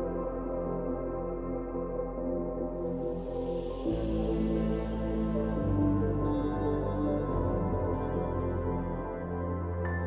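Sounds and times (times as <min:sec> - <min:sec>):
ambient music with held notes: 0:00.0 - 0:10.0.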